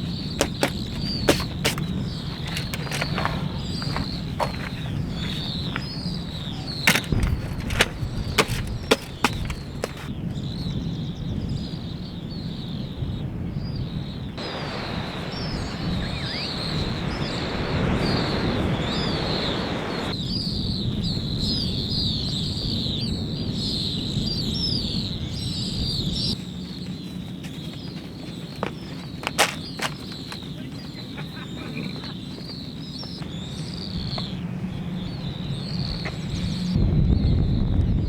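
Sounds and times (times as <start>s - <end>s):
small birds chirping: 0.0s - 37.7s.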